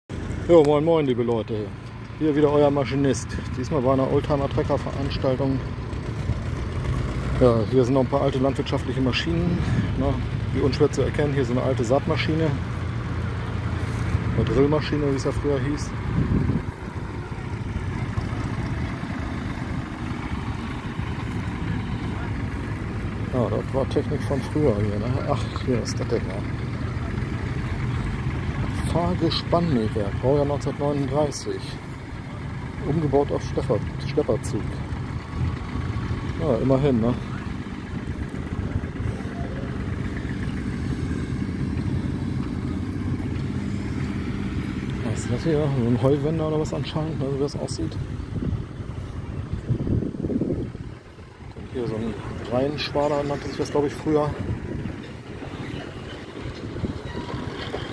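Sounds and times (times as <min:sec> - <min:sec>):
tractor engines idling: 0:00.1 - 0:57.9.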